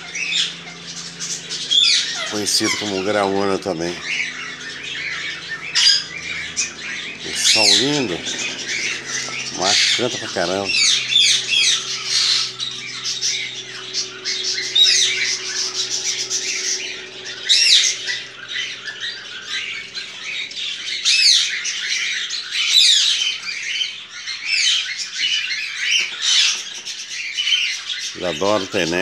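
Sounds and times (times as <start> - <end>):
blackbird singing: 0.0 - 29.0.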